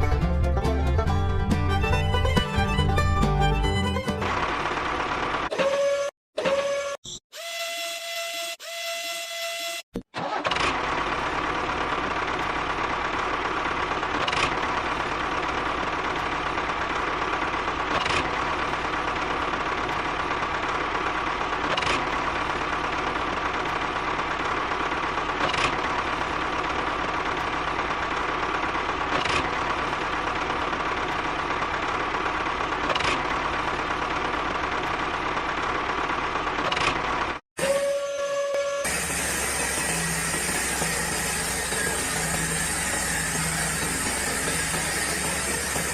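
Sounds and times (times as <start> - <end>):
engine running: 0.0 - 5.5, 10.2 - 37.9, 38.8 - 45.9.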